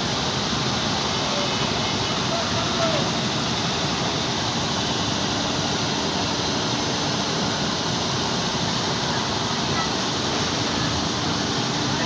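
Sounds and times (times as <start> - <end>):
heavy construction machinery running: 0.0 - 12.0.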